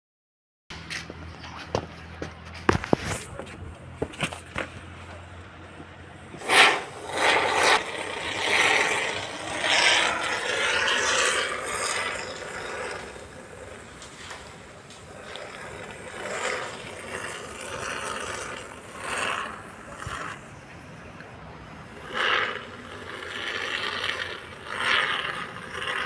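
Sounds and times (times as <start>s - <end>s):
scraping: 1.0s - 26.0s.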